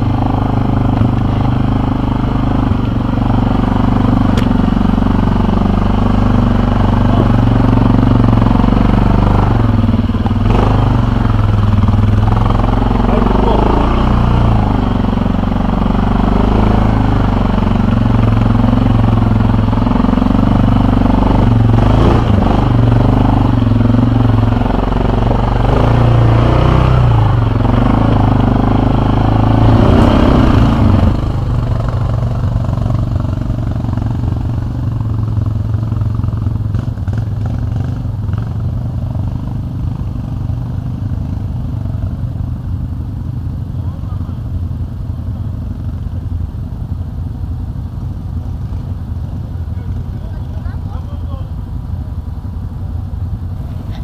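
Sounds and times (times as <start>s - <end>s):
quad bike engine revving: 0.0s - 46.4s, 53.4s - 54.0s.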